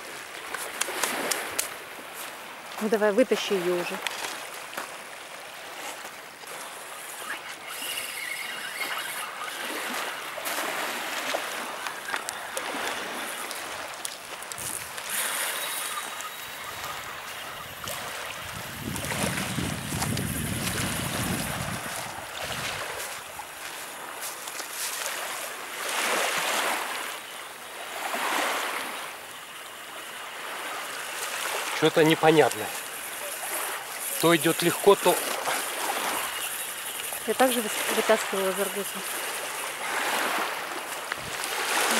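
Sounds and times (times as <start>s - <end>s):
waves washing on pebble shore: 0.0s - 27.2s, 30.2s - 41.9s.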